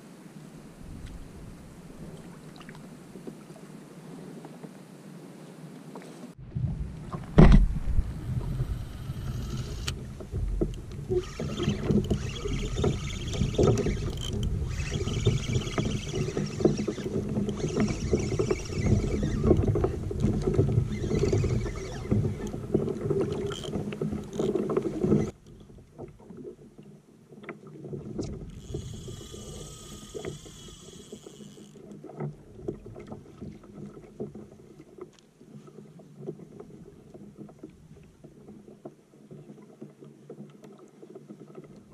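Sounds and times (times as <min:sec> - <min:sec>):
water splashing against kayak hull: 0:00.4 - 0:41.9.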